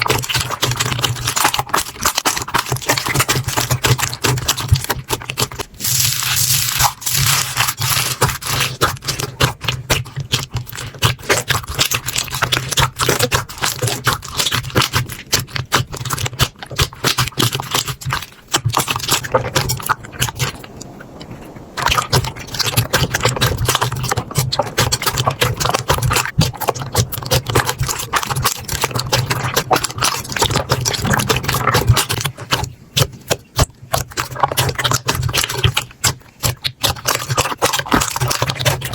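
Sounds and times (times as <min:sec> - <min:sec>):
slime crackling and popping: 0:00.0 - 0:21.0, 0:21.8 - 0:38.9.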